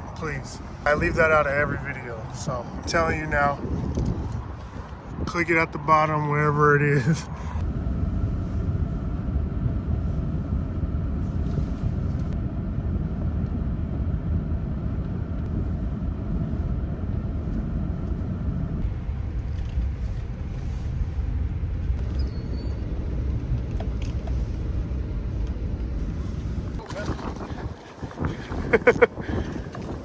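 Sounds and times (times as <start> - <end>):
steady whine: 0.0 - 30.0.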